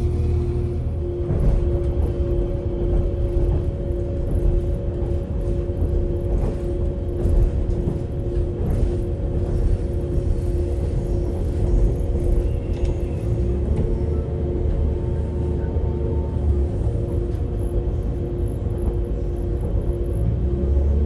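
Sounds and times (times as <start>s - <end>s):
train rumble and whine: 0.0s - 21.0s.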